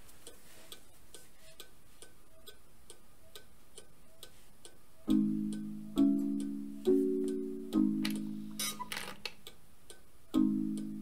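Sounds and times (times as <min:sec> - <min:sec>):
clock pendulum ticking: 0:00.0 - 0:11.0.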